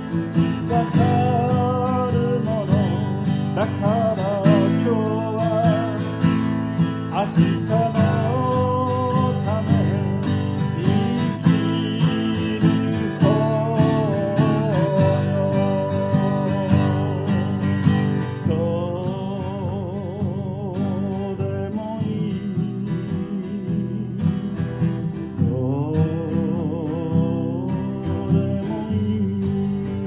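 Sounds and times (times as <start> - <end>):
man singing with vibrato: 0.0 - 30.0
strummed acoustic guitar: 0.0 - 30.0.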